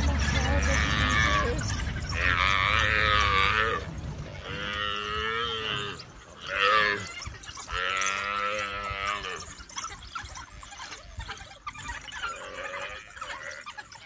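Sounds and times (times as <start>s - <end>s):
buffalo calf bawling: 0.0s - 14.0s.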